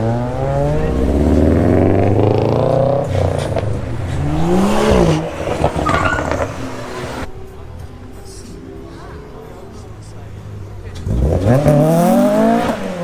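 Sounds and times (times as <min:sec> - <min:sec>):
car engine revving: 0:00.0 - 0:07.6, 0:08.6 - 0:13.0.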